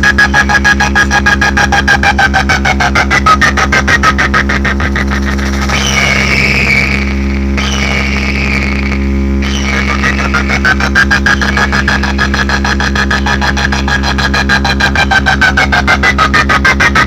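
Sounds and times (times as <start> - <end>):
distorted electronic dance music: 0.0 - 17.0
falling synth sweeps: 0.0 - 17.0.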